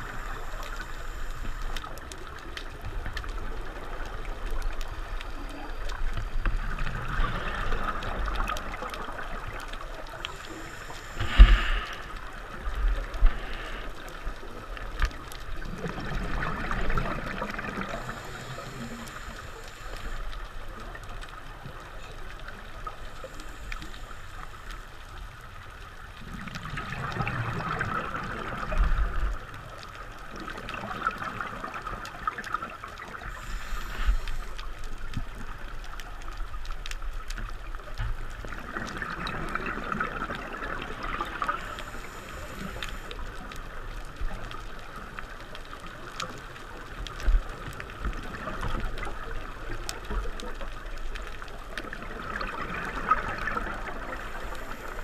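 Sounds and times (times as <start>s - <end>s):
exhaled bubbles gurgling underwater: 0.0s - 55.0s
steady hiss of water: 0.0s - 55.0s.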